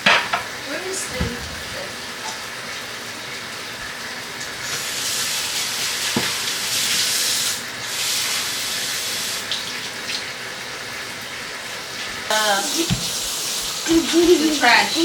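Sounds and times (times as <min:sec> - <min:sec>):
water running from tap: 0:00.0 - 0:15.0.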